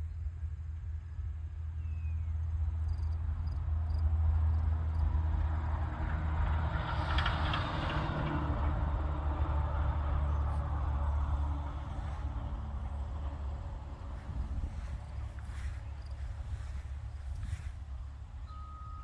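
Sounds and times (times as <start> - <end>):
motor vehicle passing: 3.3 - 19.0.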